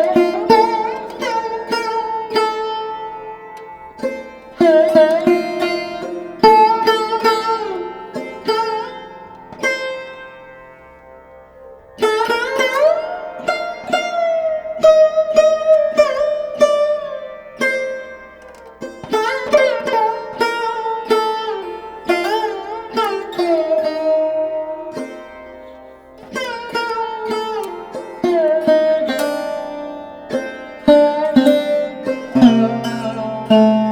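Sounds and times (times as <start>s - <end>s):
sitar plucked notes: 0.0s - 33.9s.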